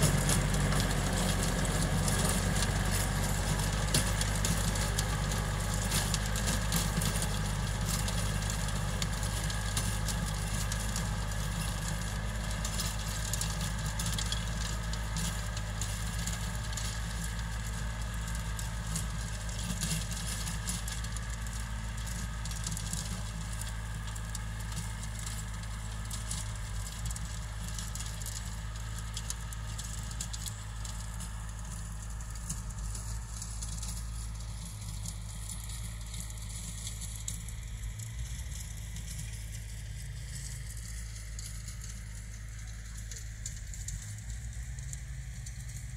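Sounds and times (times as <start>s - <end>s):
crackling hiss of tiller in soil: 0.0s - 45.9s
tractor diesel engine running: 0.0s - 45.9s.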